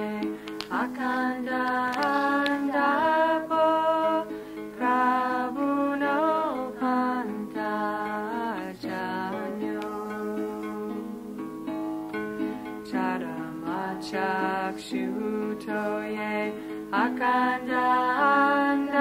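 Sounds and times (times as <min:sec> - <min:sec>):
women singing: 0:00.0 - 0:11.4, 0:12.9 - 0:19.0
instrumental accompaniment: 0:00.0 - 0:19.0.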